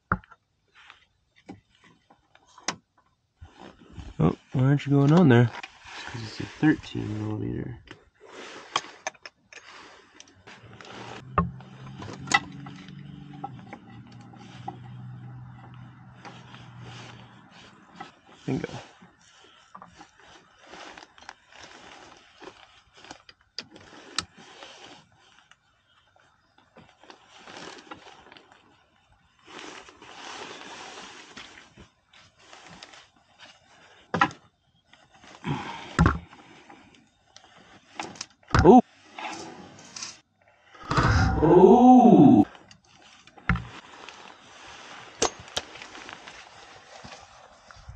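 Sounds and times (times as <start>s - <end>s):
scraping and rustling: 3.4s - 47.9s.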